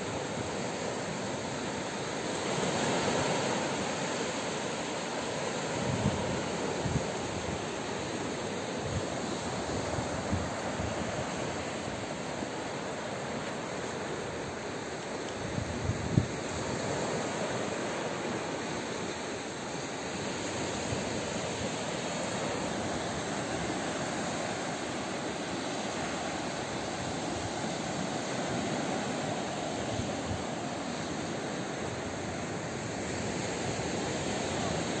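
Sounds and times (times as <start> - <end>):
small waves breaking on a beach: 0.0 - 35.0.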